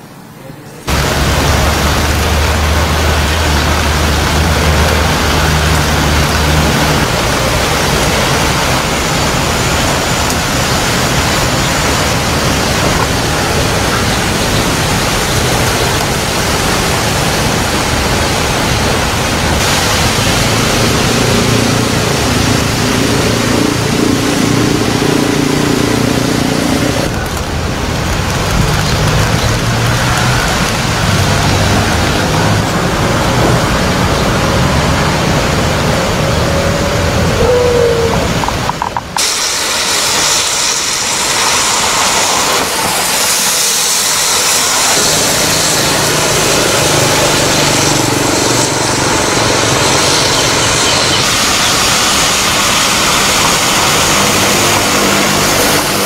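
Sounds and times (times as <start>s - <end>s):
loud rushing noise: 0.0s - 56.0s.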